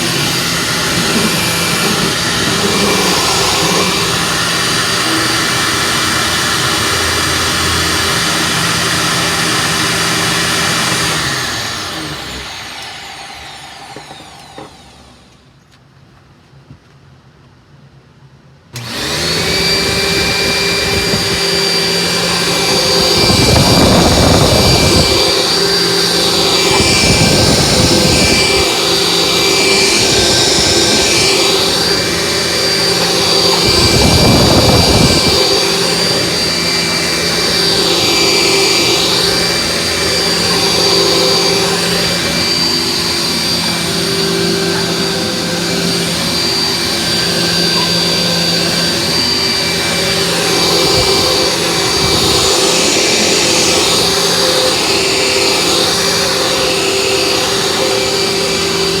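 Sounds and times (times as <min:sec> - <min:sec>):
vacuum cleaner running: 0:00.0 - 0:15.6, 0:18.7 - 0:59.0.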